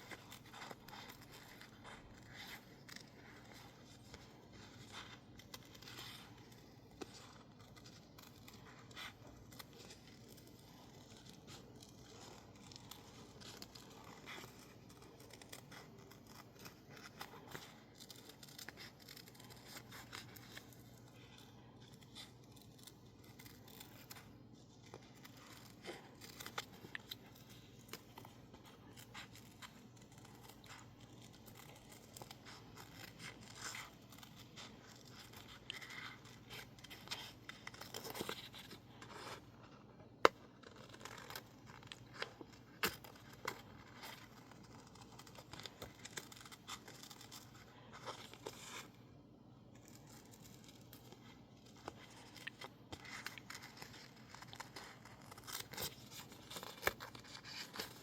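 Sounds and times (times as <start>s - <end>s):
scissors snipping paper: 0.0s - 48.9s, 49.8s - 58.0s
paper rustling: 0.0s - 49.0s, 49.7s - 58.0s.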